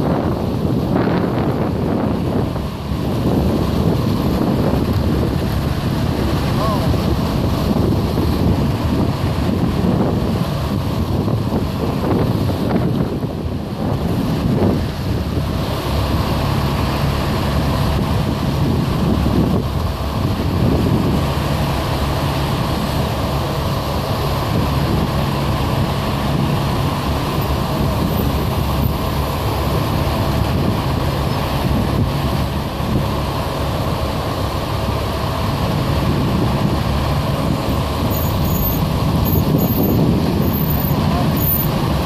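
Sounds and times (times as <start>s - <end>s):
vehicles passing by: 0.0s - 42.0s.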